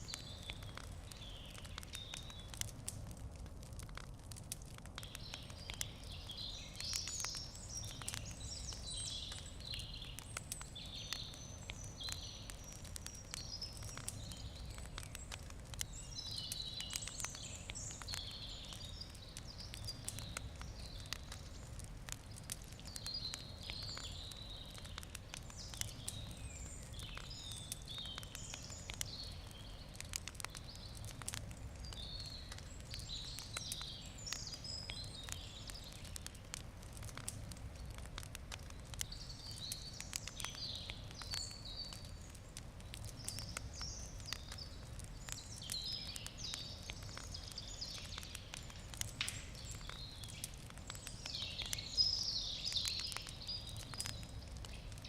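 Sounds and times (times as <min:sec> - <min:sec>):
small birds chirping: 0:00.0 - 0:55.0
wood fire crackling and popping: 0:00.0 - 0:55.0.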